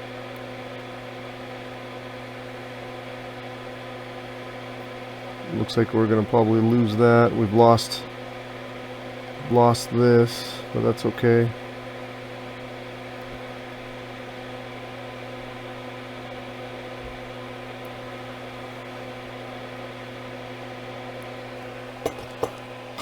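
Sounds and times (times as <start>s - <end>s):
electrical hum and whir: 0.0s - 23.0s.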